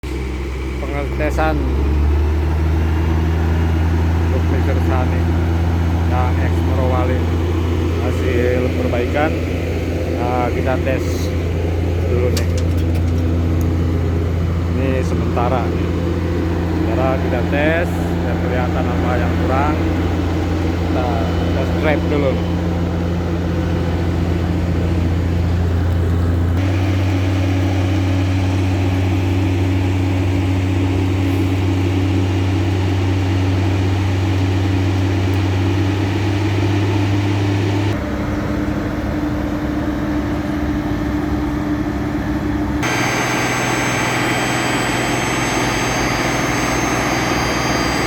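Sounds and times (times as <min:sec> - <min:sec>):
truck diesel engine running: 0:00.0 - 0:48.0.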